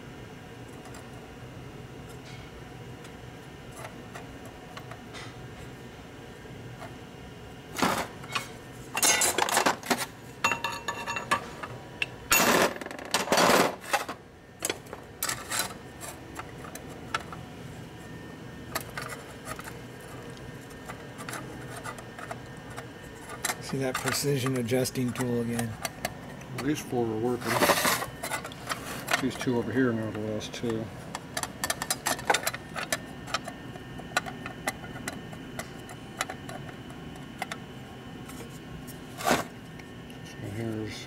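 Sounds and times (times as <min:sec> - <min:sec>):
low shop hum: 0:00.0 - 0:41.0.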